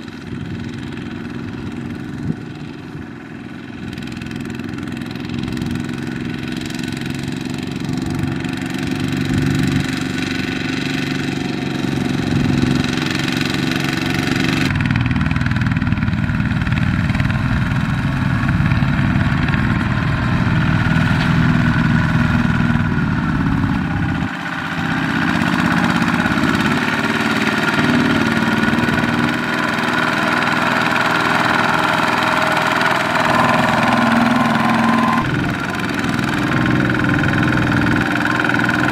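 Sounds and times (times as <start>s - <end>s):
diesel tractor engines running: 0.0s - 38.9s.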